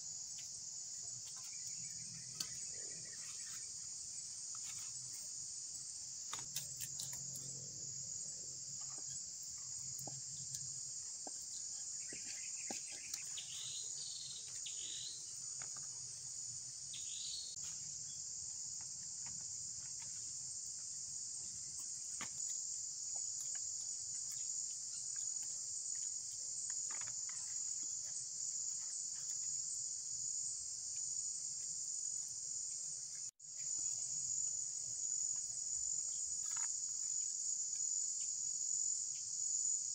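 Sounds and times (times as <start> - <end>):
chorus of forest insects: 0.0 - 39.9.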